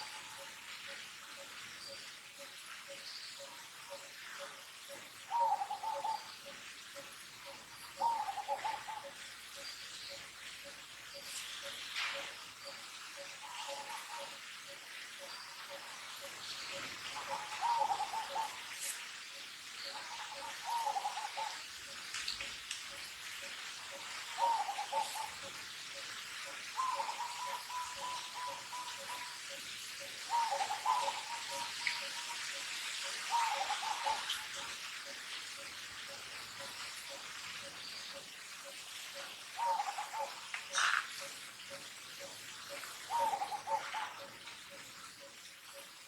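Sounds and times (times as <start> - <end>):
steady hiss: 0.0 - 46.0.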